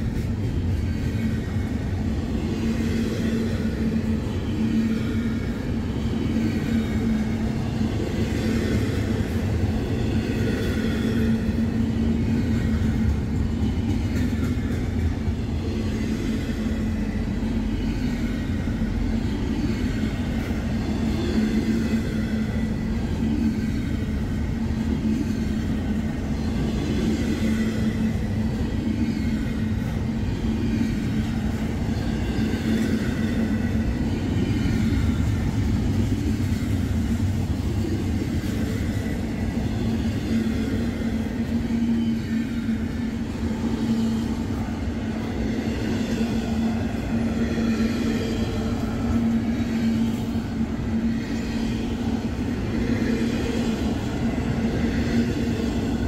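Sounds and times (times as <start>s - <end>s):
steady low tone: 0.0s - 56.0s
train wheels rumbling on rails: 0.0s - 56.0s.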